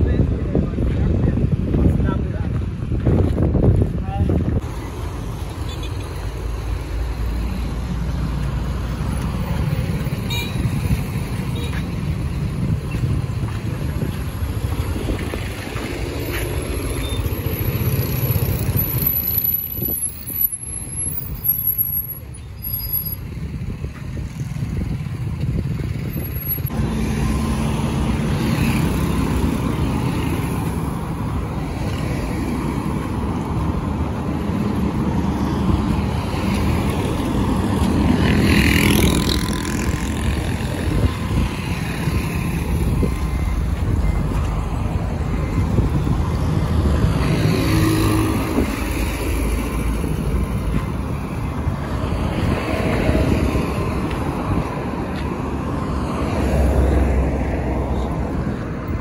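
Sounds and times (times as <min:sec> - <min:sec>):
road traffic rumbling: 0:00.0 - 0:59.0.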